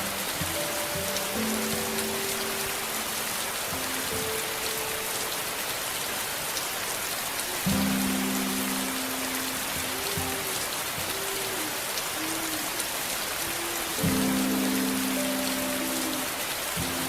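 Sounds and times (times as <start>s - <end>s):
slow ambient music: 0.0s - 6.7s, 7.3s - 17.0s
steady rain hiss: 0.0s - 17.0s.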